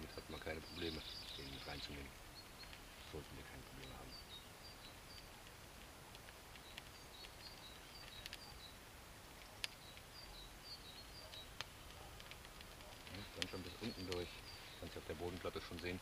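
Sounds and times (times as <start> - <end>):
fire popping: 0.0 - 16.0
small bird chirping: 0.0 - 16.0
small fire crackling: 0.0 - 16.0.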